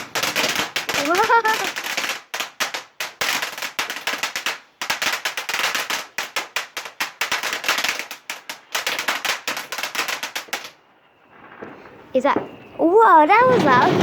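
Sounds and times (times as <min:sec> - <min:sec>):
firework crackling bangs: 0:00.0 - 0:14.0.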